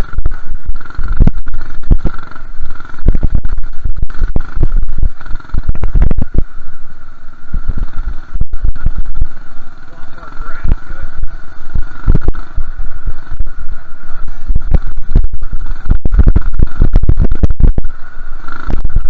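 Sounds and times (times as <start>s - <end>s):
small engine running: 0.0s - 19.0s
steady high whine: 0.0s - 19.0s
wind buffeting microphone: 0.0s - 19.0s.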